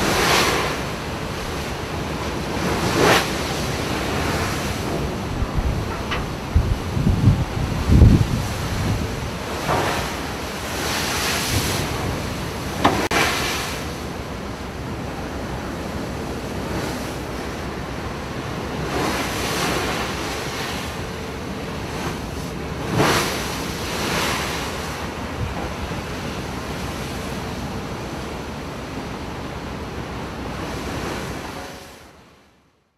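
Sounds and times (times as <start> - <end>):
storm wind on microphone: 0.0 - 28.1
rough sea breaking around boat: 0.0 - 32.9.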